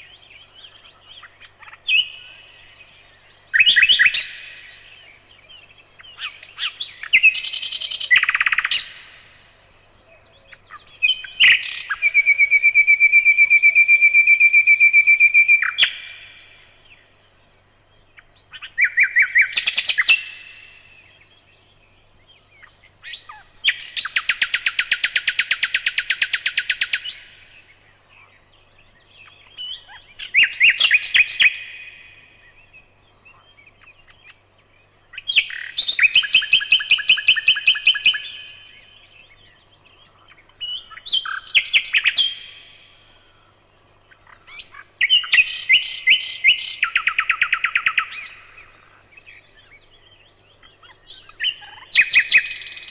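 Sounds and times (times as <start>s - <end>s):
nightingale singing: 0.0s - 52.9s.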